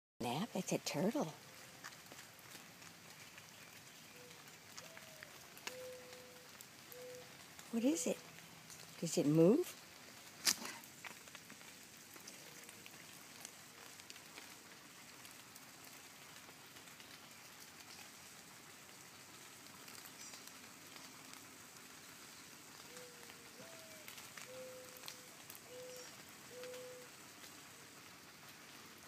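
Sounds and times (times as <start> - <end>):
light rain pattering: 0.2 - 29.0.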